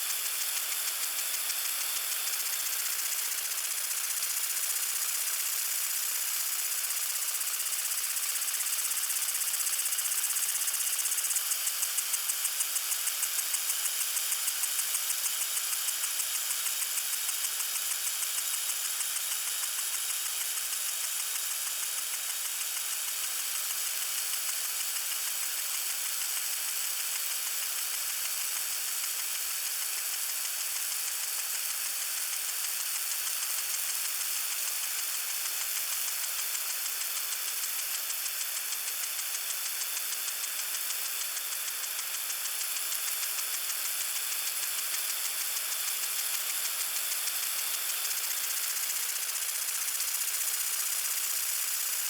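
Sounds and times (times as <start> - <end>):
lawn sprinkler spraying water: 0.0 - 52.0.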